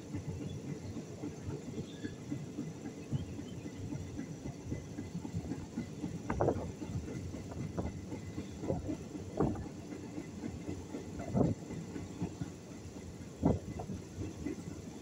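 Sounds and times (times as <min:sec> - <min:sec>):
train clunks: 0:00.0 - 0:15.0
train rumbling and rattling: 0:00.0 - 0:15.0.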